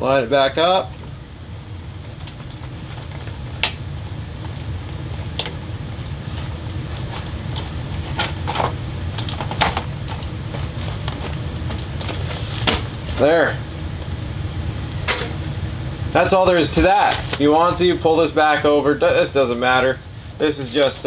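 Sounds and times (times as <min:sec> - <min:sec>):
steady low hum: 0:00.0 - 0:21.0
foil duct rustling and crinkling: 0:00.3 - 0:15.1, 0:16.2 - 0:21.0.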